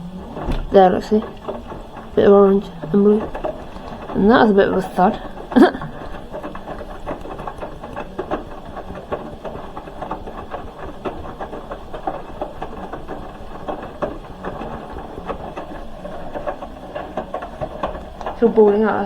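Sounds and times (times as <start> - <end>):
laundry tumbling soft knocks: 0.0 - 19.0
washing machine motor hum: 0.0 - 19.0.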